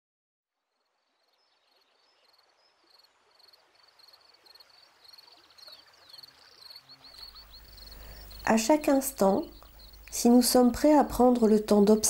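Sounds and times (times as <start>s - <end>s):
soft steady hiss: 0.5s - 12.0s.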